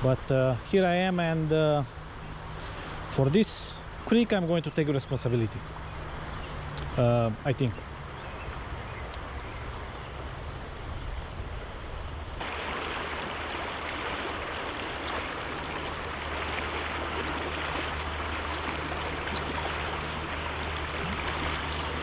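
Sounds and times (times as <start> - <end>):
creek water rushing: 0.2 - 11.6, 12.3 - 22.0.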